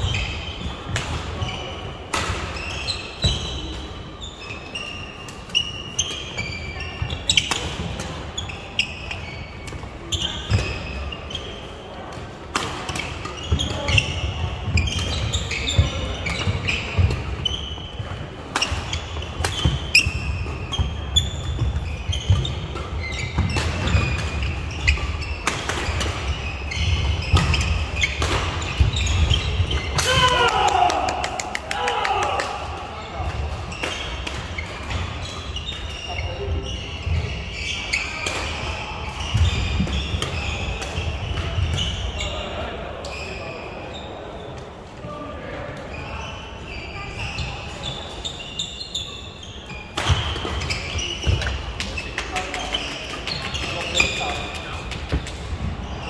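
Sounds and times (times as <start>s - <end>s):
shoes squeaking on court floor: 0.0s - 30.7s, 32.3s - 56.0s.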